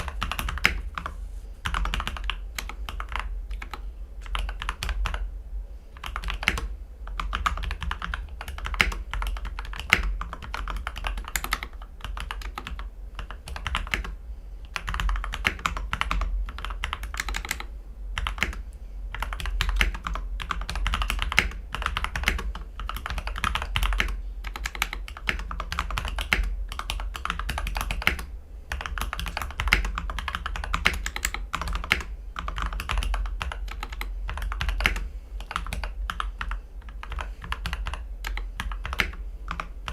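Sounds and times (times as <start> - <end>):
mechanical keyboard typing: 0.0 - 5.2, 6.0 - 39.9.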